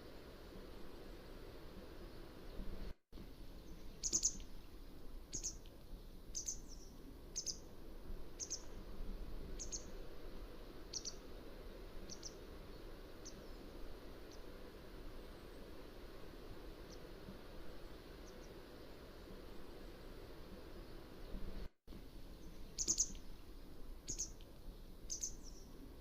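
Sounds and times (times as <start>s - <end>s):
low background hiss: 0.0s - 26.0s.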